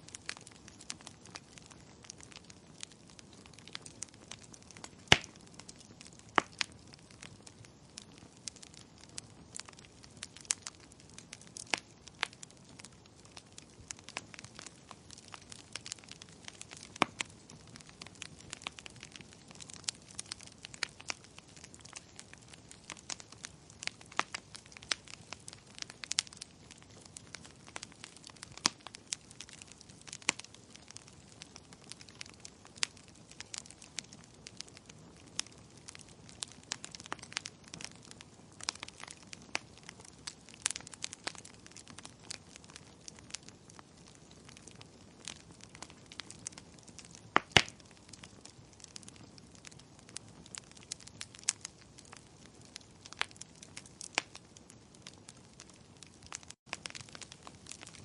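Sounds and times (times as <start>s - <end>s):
soft steady hiss: 0.0s - 50.5s
wood fire crackling: 0.0s - 58.0s.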